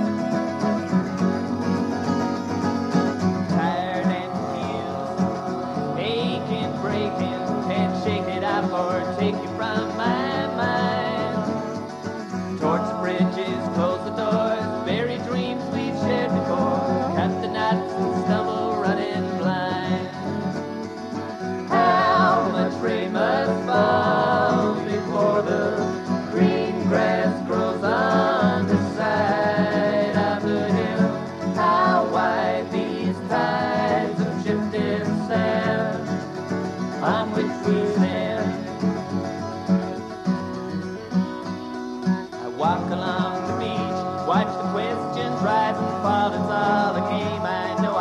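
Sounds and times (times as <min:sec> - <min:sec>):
acoustic guitars playing: 0:00.0 - 0:48.0.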